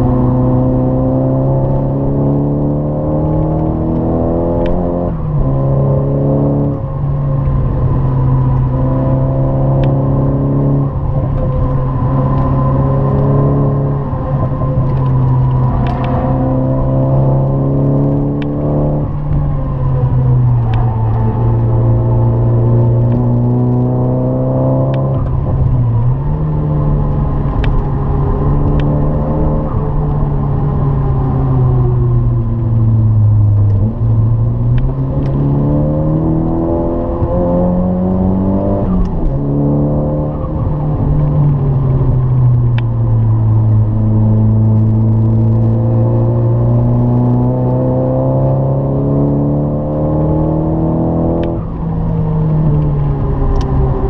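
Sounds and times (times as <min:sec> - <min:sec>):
car engine revving: 0:00.0 - 0:54.0
road and tyre rumble: 0:00.0 - 0:54.0.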